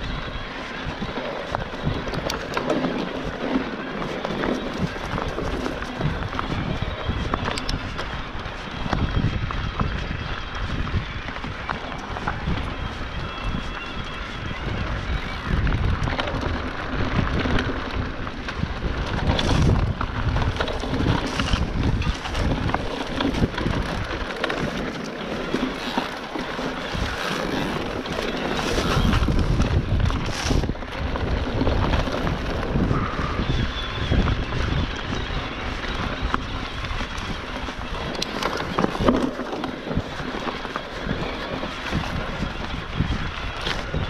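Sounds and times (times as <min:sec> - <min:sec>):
bike rattling over bumps: 0:00.0 - 0:44.0
tyres on dirt: 0:00.0 - 0:44.0
wind on microphone: 0:00.0 - 0:44.0.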